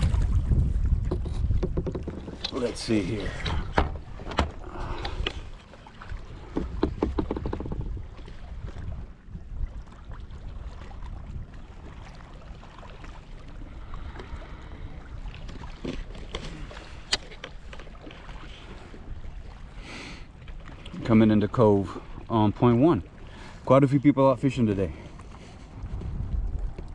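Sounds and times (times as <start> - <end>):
paddle strokes splashing water: 0.0 - 26.9.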